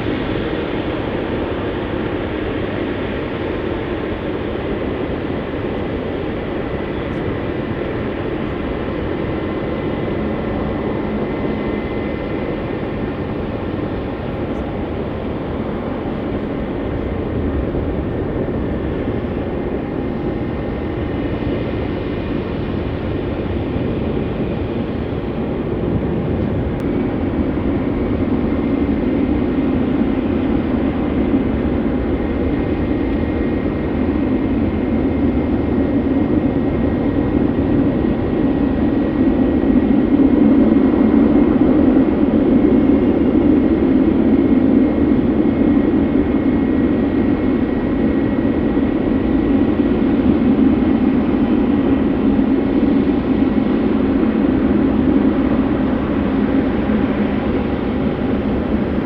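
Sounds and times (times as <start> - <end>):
airliner engines rumbling: 0.0 - 59.0.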